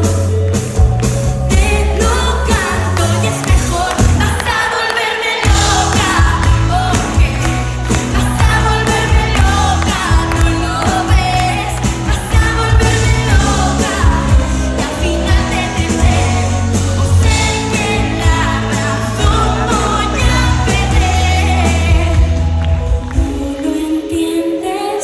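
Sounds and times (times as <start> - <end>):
pop band playing: 0.0 - 25.0
woman singing into microphone: 1.5 - 25.0.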